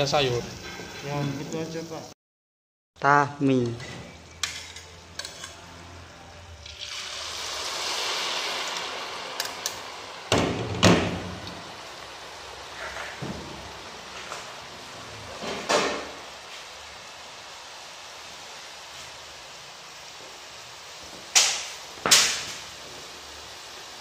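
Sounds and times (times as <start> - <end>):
hot oil sizzling in wok: 0.0 - 2.2, 3.7 - 24.0.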